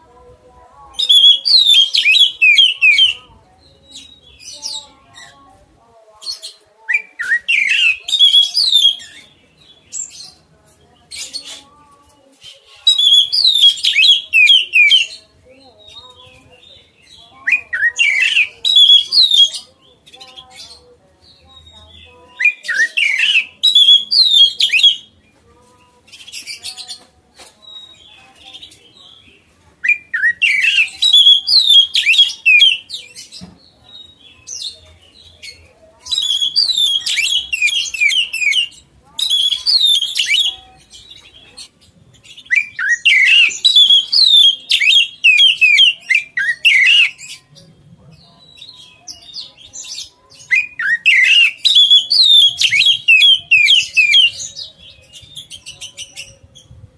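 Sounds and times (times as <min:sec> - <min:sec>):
songbird chirping and whistling: 0:00.9 - 0:05.4, 0:06.2 - 0:25.4, 0:26.0 - 0:47.7, 0:48.4 - 0:56.9.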